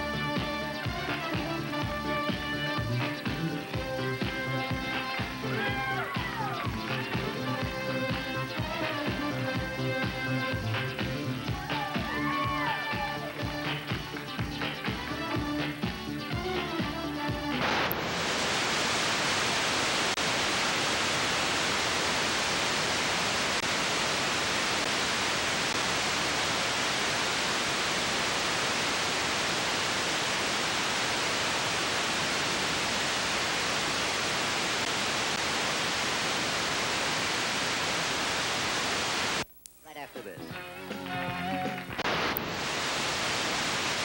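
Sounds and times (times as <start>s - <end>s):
tv static hiss: 0.0s - 44.0s.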